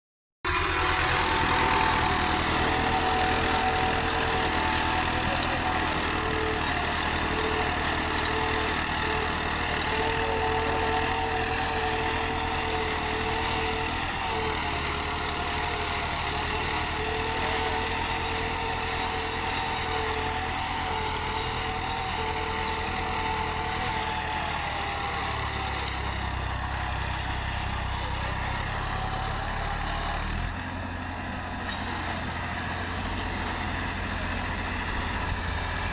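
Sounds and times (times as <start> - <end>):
tractor diesel engine running: 0.4 - 35.9.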